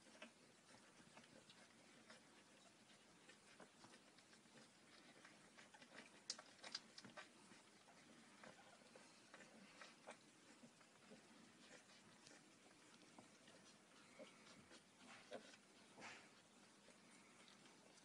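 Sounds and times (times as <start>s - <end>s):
puppies suckling and smacking: 0.0s - 18.0s.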